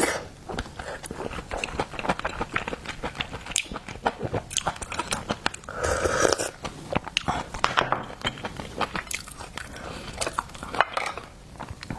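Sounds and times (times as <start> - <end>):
person chewing food wetly: 0.5 - 11.9.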